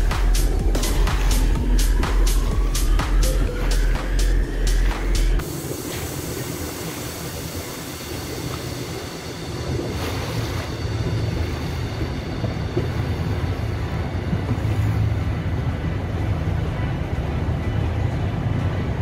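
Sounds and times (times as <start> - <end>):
motorboat engine running: 0.0 - 19.0
water rushing along hull: 0.0 - 19.0.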